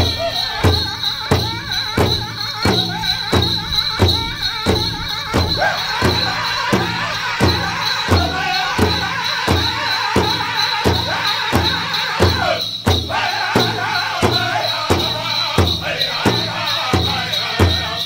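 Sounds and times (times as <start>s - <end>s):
big drum beating: 0.0s - 18.0s
group singing high voices: 0.0s - 18.0s.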